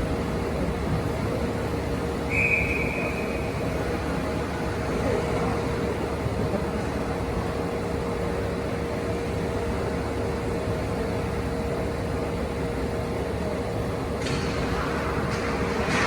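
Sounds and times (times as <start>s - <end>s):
constant hum: 0.0s - 16.0s.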